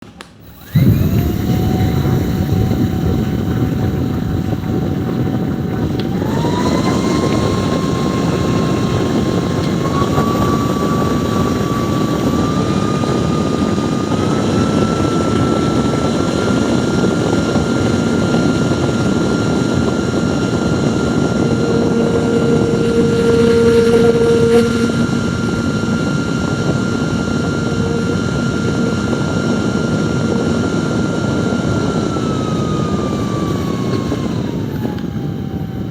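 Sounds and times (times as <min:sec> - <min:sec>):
electric fan blowing: 0:00.0 - 0:35.9
low hum: 0:00.4 - 0:35.4.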